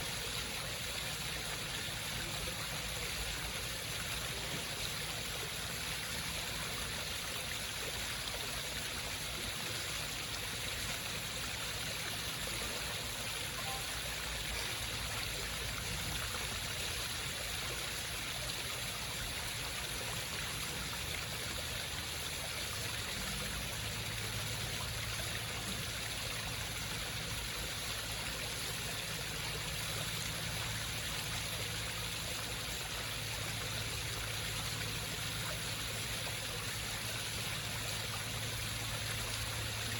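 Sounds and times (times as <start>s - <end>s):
water trickling down rocks: 0.0s - 39.9s.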